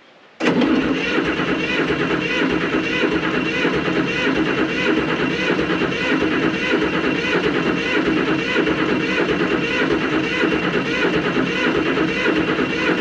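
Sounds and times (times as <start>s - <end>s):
starter cranking diesel engine: 0.4s - 13.0s.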